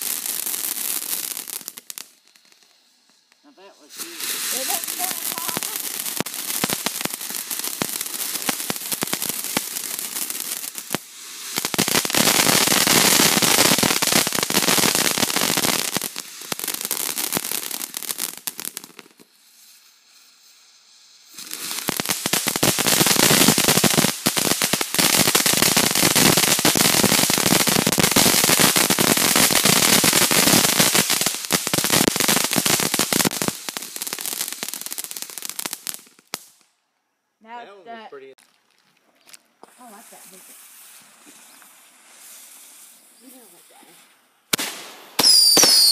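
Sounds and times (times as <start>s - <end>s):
firework fountain crackling hiss: 0.0s - 36.7s, 39.2s - 45.9s.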